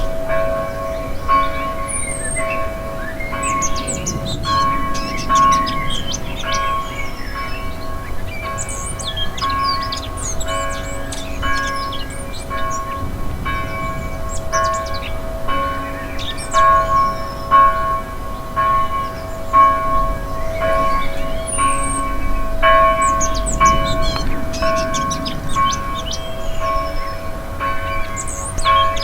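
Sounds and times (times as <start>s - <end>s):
church bell tolling: 0.0s - 29.0s
small birds chirping: 0.0s - 29.0s.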